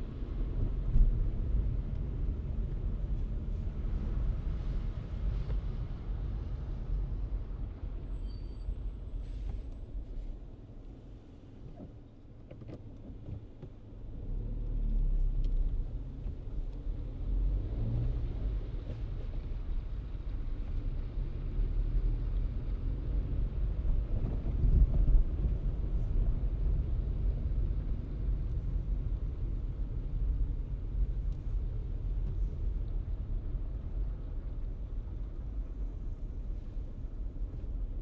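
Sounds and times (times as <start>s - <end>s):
car engine and tyres rumble: 0.0s - 38.0s.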